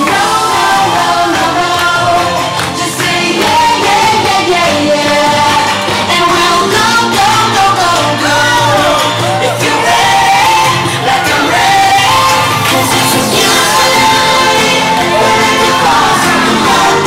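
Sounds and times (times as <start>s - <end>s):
loud music with singing: 0.0s - 17.0s.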